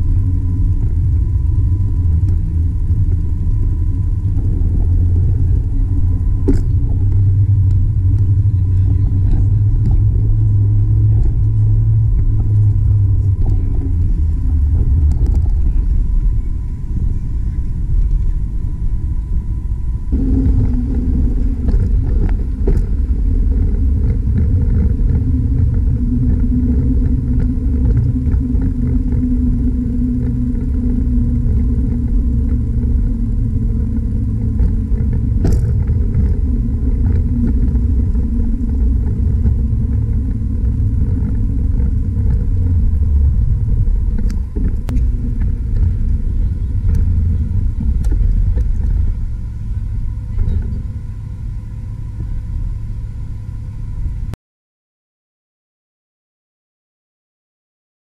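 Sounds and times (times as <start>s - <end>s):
low wind rumble on microphone: 0.0s - 54.4s.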